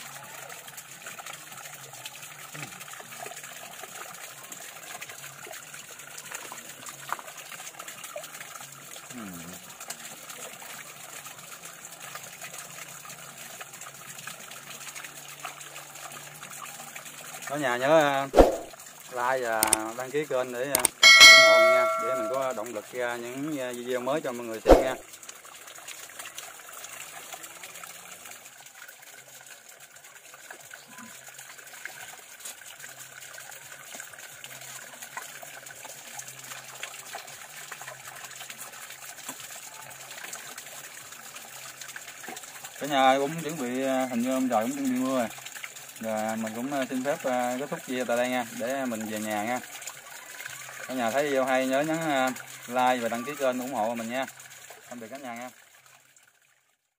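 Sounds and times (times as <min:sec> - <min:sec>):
stream water trickling and splashing: 0:00.0 - 0:56.9.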